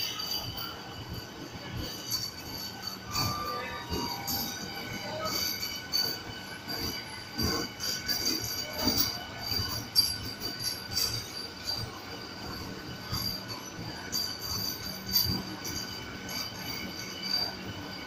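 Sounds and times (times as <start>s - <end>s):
high steady squeal: 0.0s - 18.0s
train wheels clicking over rail joints: 0.0s - 18.0s.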